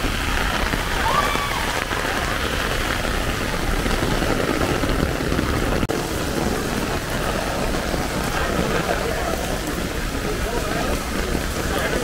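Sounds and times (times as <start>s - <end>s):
heavy rain on umbrella: 0.0s - 12.0s
vehicle engine rumble: 0.0s - 12.0s.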